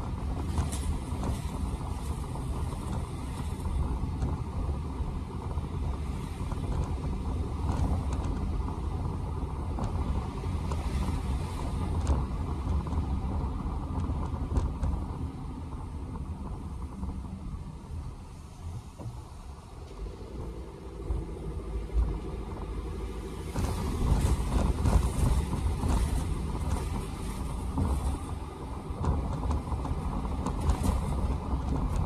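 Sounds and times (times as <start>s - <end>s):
tyres and engine rumble: 0.0s - 32.0s.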